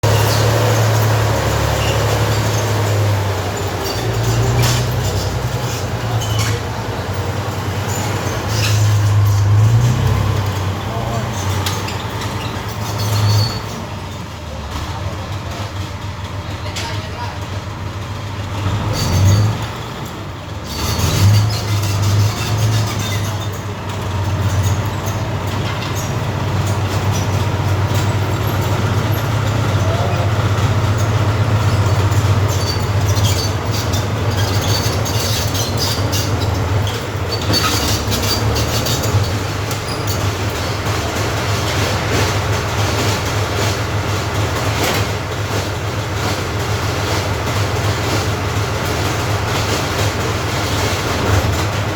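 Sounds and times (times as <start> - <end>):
vehicle engine deep rumble: 0.0 - 51.9.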